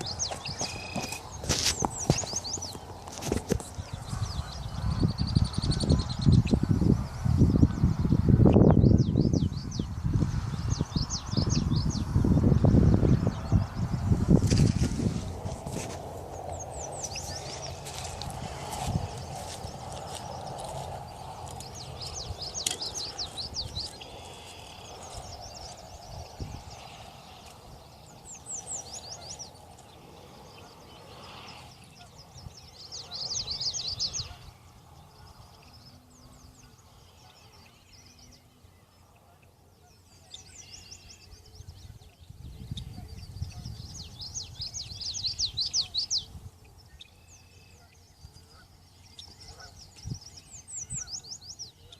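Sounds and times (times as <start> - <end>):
songbird trilling: 0.0 - 3.0, 3.7 - 12.1, 16.3 - 51.9
low outdoor rumble: 0.0 - 45.1.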